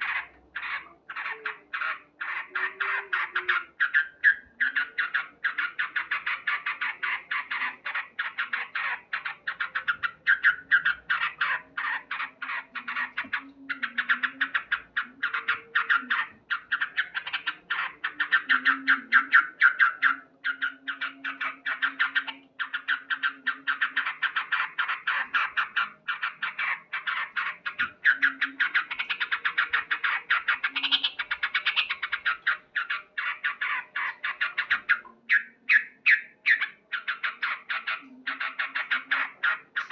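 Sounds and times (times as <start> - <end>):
bulbul chattering call: 0.0 - 39.9.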